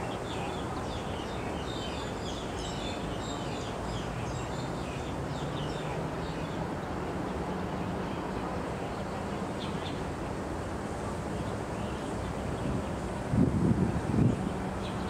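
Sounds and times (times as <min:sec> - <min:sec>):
songbirds chirping: 0:00.0 - 0:15.0
steady background noise: 0:00.0 - 0:15.0.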